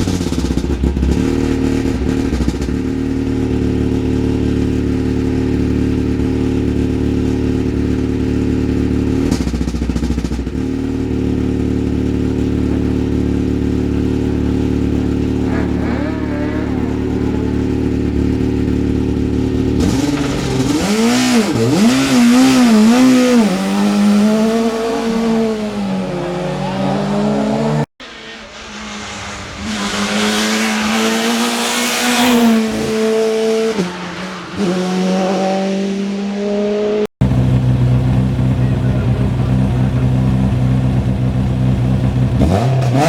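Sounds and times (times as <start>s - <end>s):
race car engines at full throttle: 0.0s - 43.0s.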